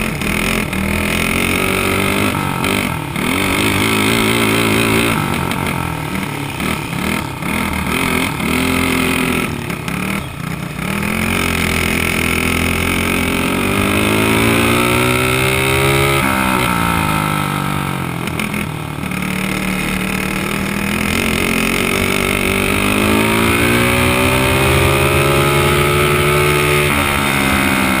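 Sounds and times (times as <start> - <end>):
kart engine racing: 0.0 - 28.0.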